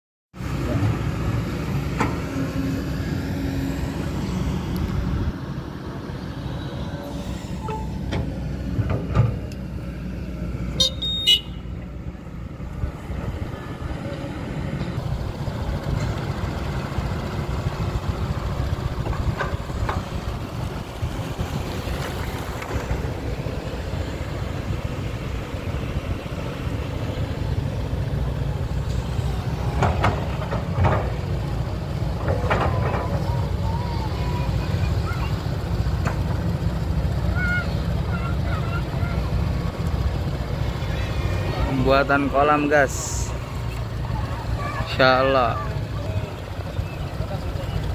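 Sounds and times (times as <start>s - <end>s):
excavator diesel engine running: 0.4s - 47.9s.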